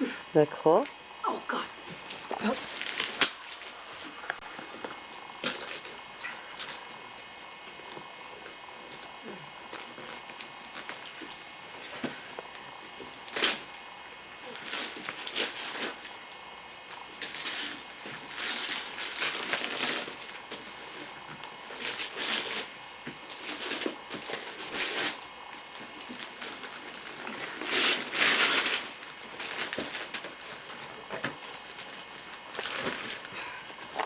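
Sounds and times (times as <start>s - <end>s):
wrapping paper tearing and rustling: 1.9s - 16.2s, 16.9s - 34.0s.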